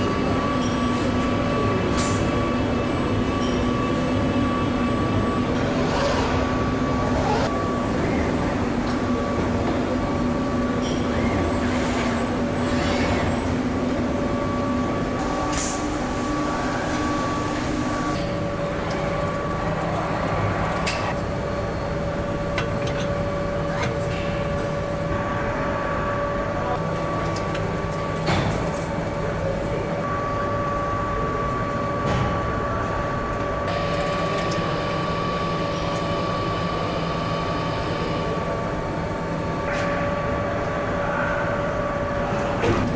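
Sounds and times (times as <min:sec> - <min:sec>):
machinery drone: 0:00.0 - 0:42.9.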